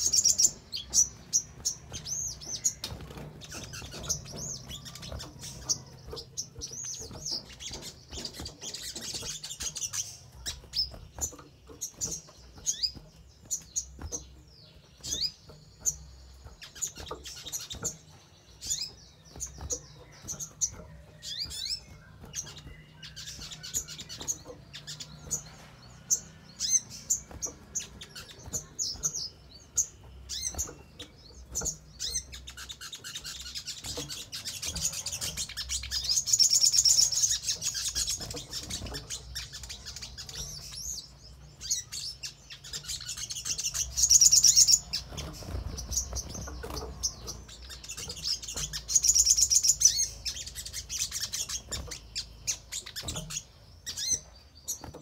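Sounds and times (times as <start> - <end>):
bird hopping flutters: 0.0 - 55.0
sunbird chirping and twittering: 0.0 - 55.0.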